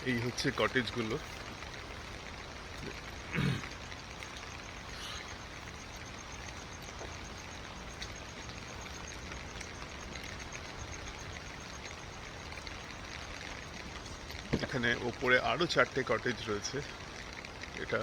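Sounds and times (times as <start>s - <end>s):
drops ticking: 0.0s - 18.0s
steady rain falling: 0.0s - 18.0s.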